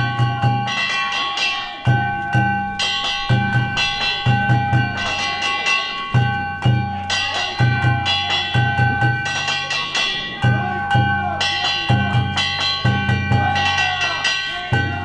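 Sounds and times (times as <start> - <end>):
metal gongs ringing: 0.0 - 15.0
taiko drum beating: 0.0 - 15.0.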